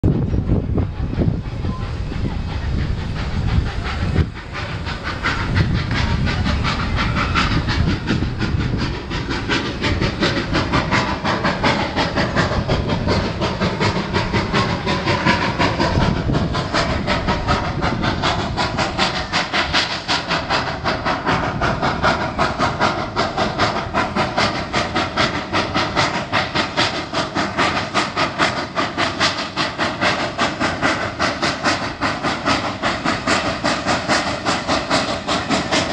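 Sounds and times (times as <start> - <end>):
hissing steam: 0.0 - 35.9
steam locomotive exhaust beats: 0.0 - 35.9.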